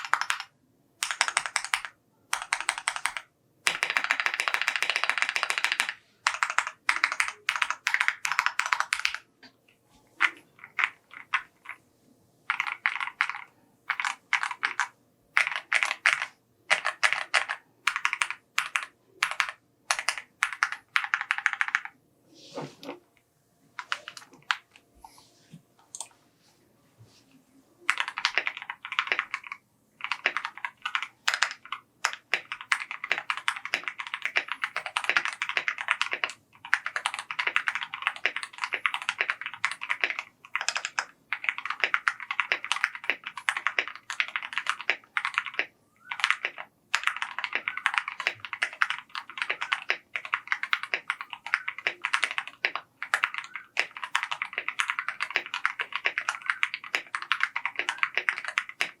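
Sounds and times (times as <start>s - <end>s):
mechanical keyboard typing: 0.0s - 9.3s, 10.2s - 11.8s, 12.5s - 22.0s, 23.8s - 24.7s, 27.8s - 59.0s.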